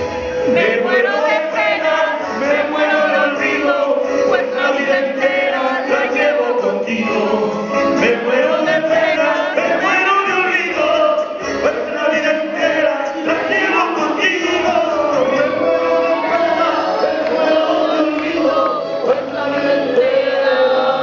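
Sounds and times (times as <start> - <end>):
two men singing into microphones: 0.0 - 21.0.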